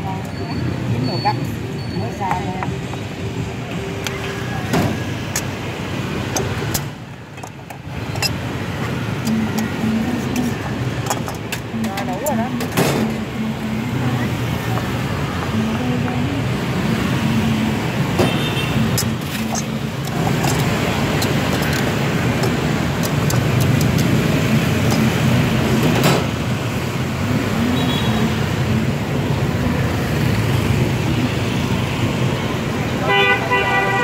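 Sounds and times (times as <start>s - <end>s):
motorbike and car traffic: 0.0s - 34.0s.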